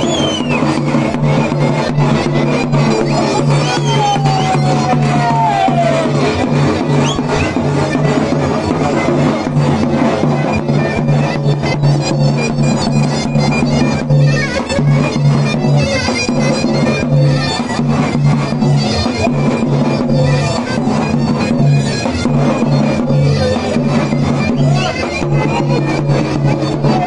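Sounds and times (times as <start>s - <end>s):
davul drum beats: 0.0s - 27.0s
zurna reedy melody: 0.0s - 27.0s.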